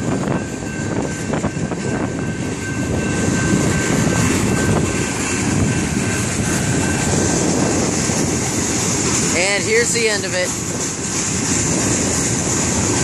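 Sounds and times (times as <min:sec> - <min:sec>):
train cars clanking: 0:00.0 - 0:13.0
train wheels rumbling on rail: 0:00.0 - 0:13.0.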